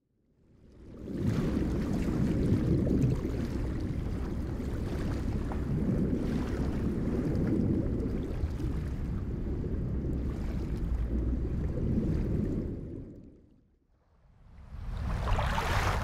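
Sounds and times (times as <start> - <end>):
muffled underwater wave surge: 1.0 - 13.7, 14.6 - 16.0.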